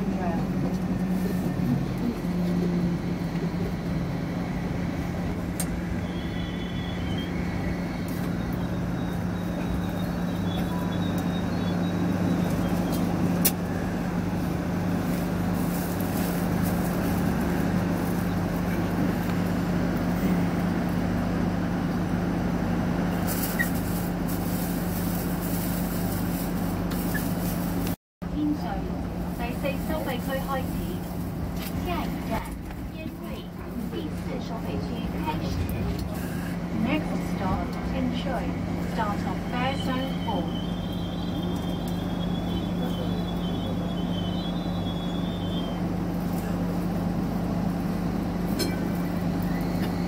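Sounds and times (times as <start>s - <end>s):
low motor hum: 0.0s - 50.0s
wheels rumbling on rails: 0.0s - 50.0s.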